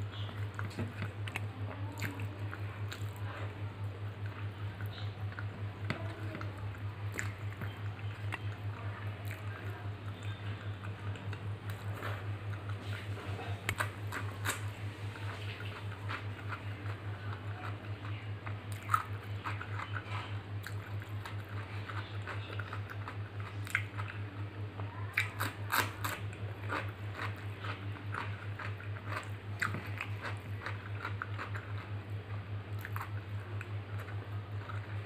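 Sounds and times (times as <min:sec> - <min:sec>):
chewing and crunching cucumber: 0:00.0 - 0:35.0.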